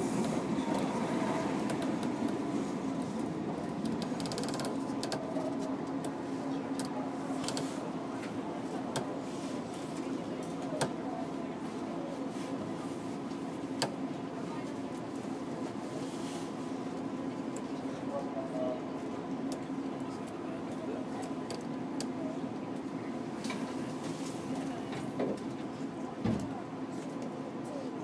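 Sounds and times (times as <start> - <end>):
electric train mechanical hum: 0.0 - 28.0.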